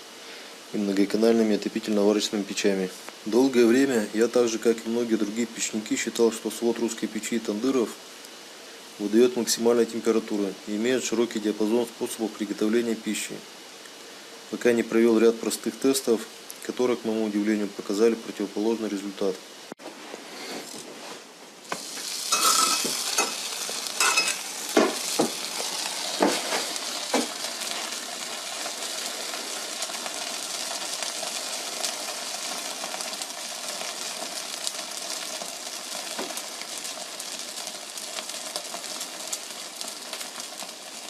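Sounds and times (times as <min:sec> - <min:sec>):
wood fire hissing and crackling: 0:00.0 - 0:41.0.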